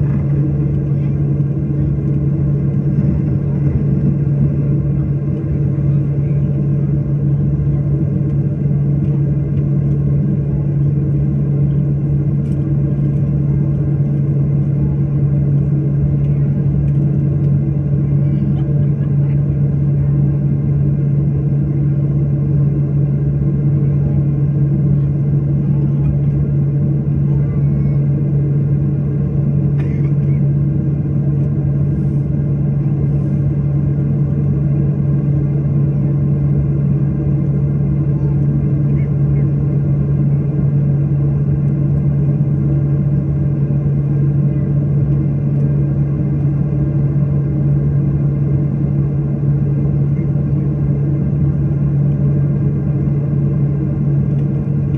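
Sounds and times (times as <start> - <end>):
airliner engine drone in cabin: 0.0 - 54.9.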